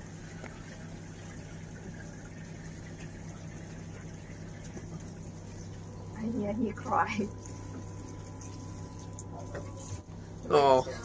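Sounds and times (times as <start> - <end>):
constant low hum: 0.0 - 11.0
shower water running into bathtub: 0.0 - 11.0.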